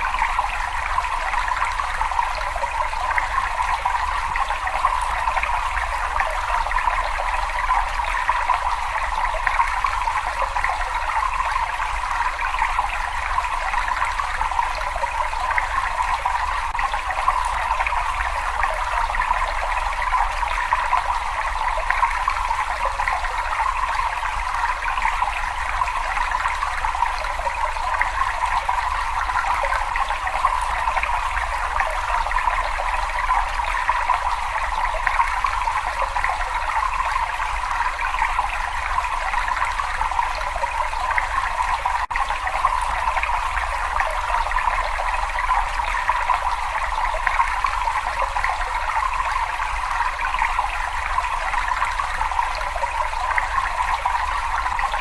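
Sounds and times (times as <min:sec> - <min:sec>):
water flowing in a cave: 0:00.0 - 0:55.0.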